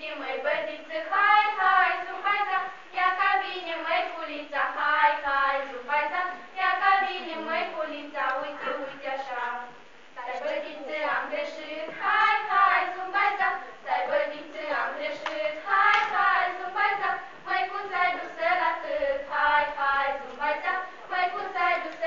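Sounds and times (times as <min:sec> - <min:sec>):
girls singing in unison: 0:00.0 - 0:22.0.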